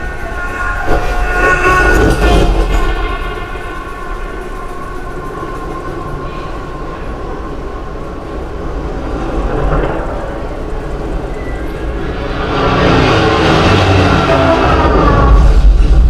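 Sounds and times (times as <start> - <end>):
rumbling soundtrack with deep bass: 0.0 - 16.0.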